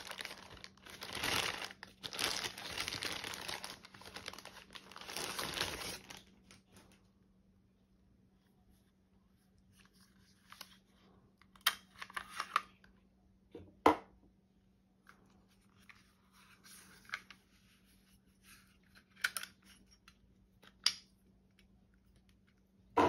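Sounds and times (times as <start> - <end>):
soft rustling handling noise: 0.0 - 7.4, 8.0 - 13.0, 14.9 - 22.8.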